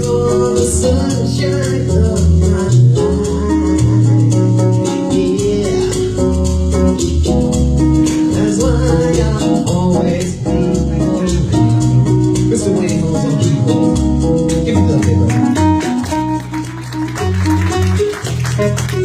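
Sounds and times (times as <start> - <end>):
bass line: 0.0 - 19.0
live band playing soul music: 0.0 - 19.0.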